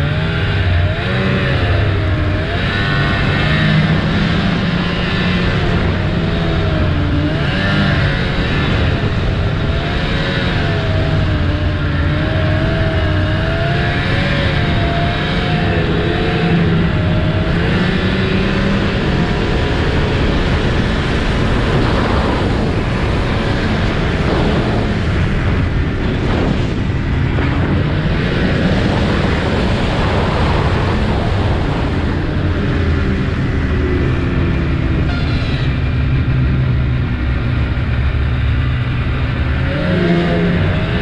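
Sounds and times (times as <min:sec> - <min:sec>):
snowmobile engine running: 0:00.0 - 0:41.0
steady rush of noise: 0:00.0 - 0:41.0.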